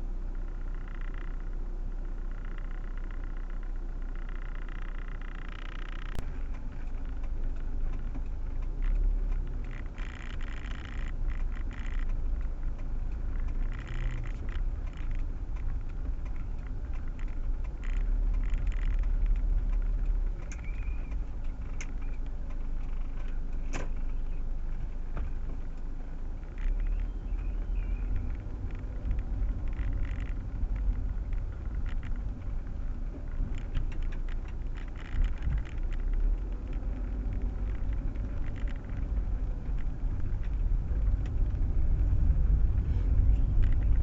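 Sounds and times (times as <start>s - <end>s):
engine and road rumble: 0.0s - 44.0s
sharp clicks: 2.2s - 44.0s.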